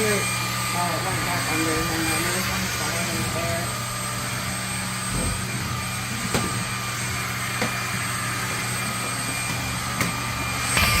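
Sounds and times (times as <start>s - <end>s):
vacuum motor whining: 0.0s - 11.0s.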